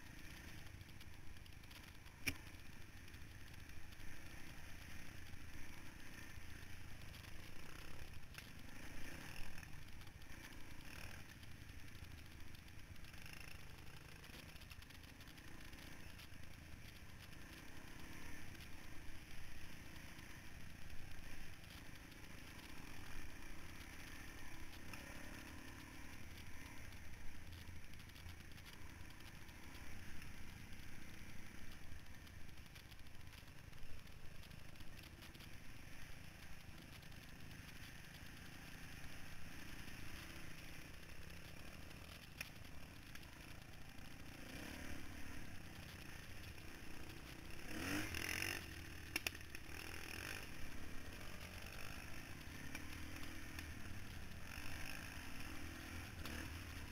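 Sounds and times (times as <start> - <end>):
dirt bike engine running: 0.0 - 56.9.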